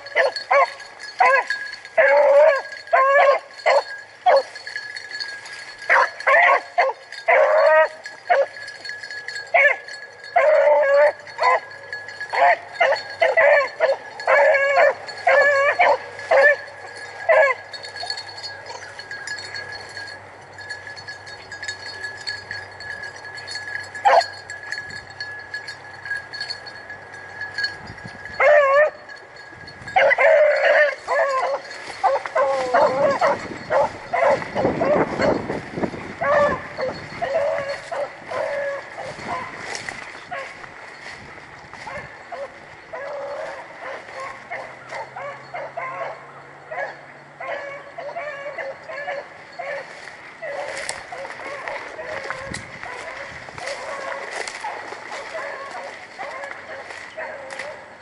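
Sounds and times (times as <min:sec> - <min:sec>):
hounds baying: 0:00.0 - 0:41.1, 0:41.7 - 0:58.0.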